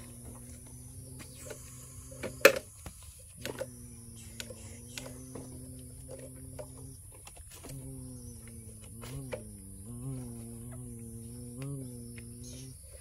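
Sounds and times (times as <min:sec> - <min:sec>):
low humming drone: 0:00.0 - 0:13.0.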